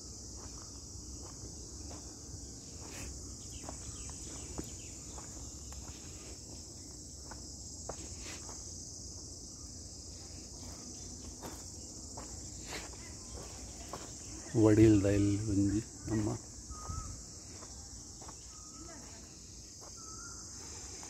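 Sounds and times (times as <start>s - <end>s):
insects chirring: 0.0s - 21.0s
faint footsteps: 0.3s - 9.4s, 10.1s - 14.5s, 16.1s - 21.0s.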